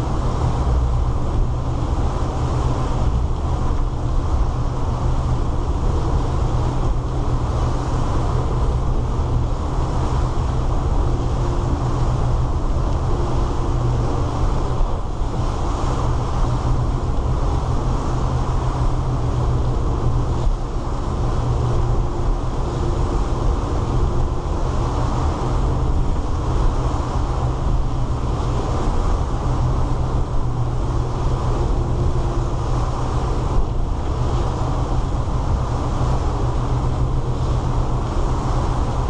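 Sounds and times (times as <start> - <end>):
boat engines running: 0.0 - 39.0
rush of wind and water: 0.0 - 39.0.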